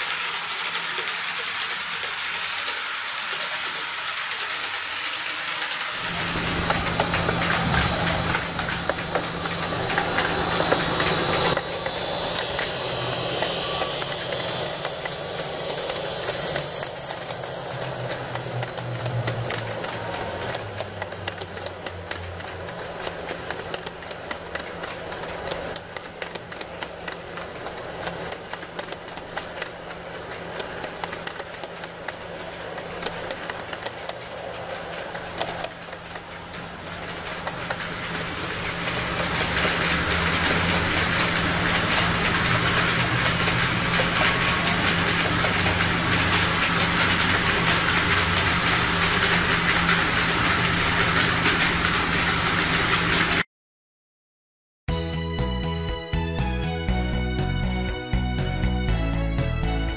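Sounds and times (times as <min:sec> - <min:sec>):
model train motor whir: 0:00.0 - 0:53.4
wheel clicks over rail joints: 0:00.0 - 0:53.4.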